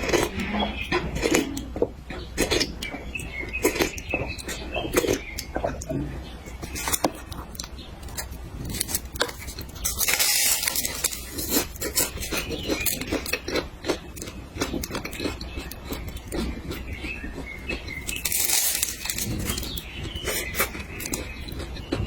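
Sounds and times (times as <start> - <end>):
chewing with mouth clicks: 0.0 - 22.0.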